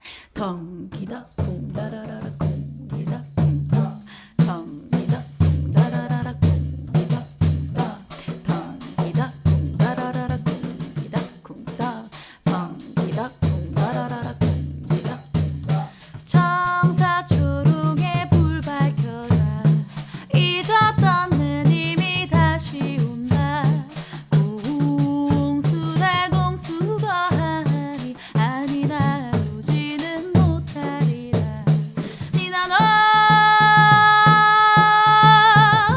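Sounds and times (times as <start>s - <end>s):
voices singing: 0.4s - 35.9s
pandeiro rhythm: 1.0s - 35.9s.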